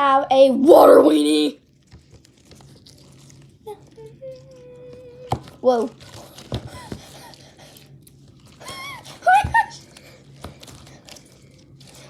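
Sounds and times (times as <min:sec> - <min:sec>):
handling knocks and rustles: 0:01.8 - 0:12.0.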